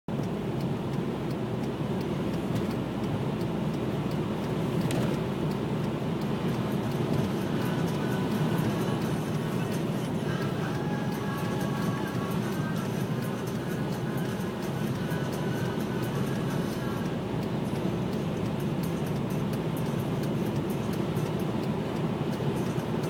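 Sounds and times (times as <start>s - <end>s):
car driving on highway: 0.1s - 23.0s.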